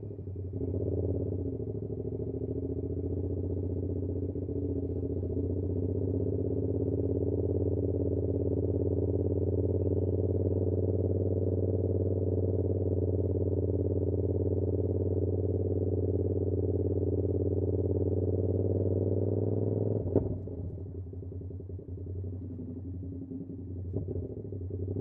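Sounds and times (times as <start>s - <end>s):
muffled motorcycle engine cruising: 0.0s - 25.0s.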